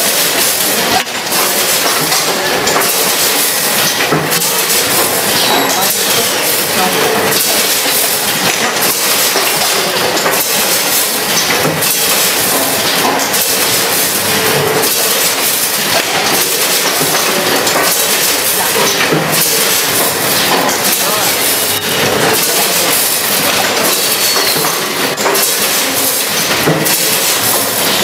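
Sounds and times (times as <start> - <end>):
packaging machine clattering: 0.0 - 28.0
sharp machine clack: 0.0 - 28.0.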